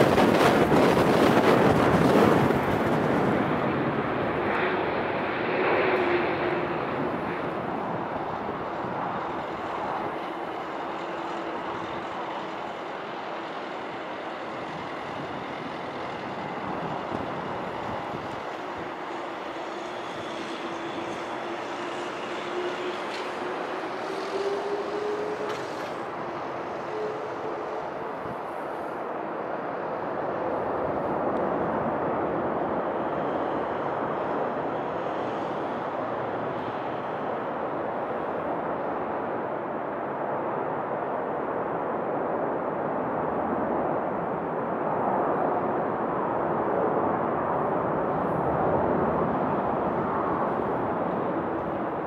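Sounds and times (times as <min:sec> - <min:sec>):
jet engine whine: 0:00.0 - 0:52.0
jet engines rushing: 0:00.0 - 0:52.0.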